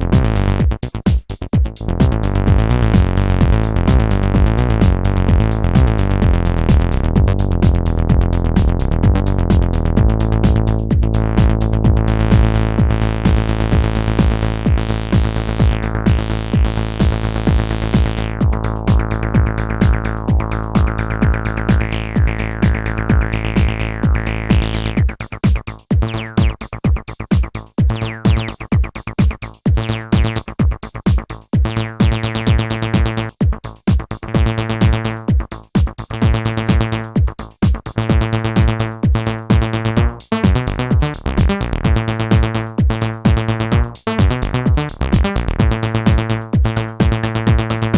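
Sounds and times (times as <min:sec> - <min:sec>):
acid synthesizer bass line: 0:00.0 - 0:30.8, 0:31.6 - 0:47.9
drum machine beat: 0:00.0 - 0:47.9.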